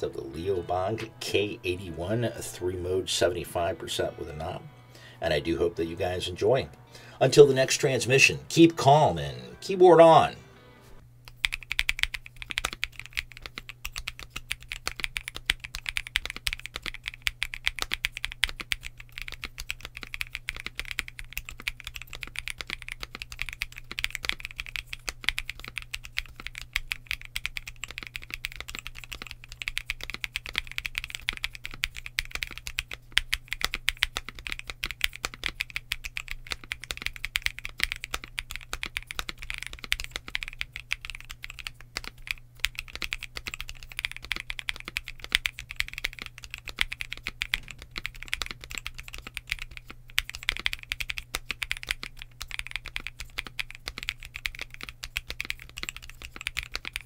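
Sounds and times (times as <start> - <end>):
mechanical keyboard typing: 11.2 - 57.0.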